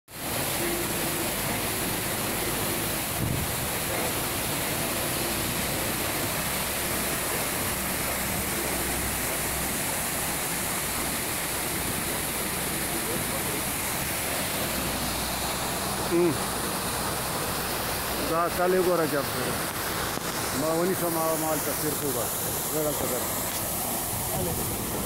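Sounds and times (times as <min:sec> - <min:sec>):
waterfall rushing onto rocks: 0:00.1 - 0:25.0.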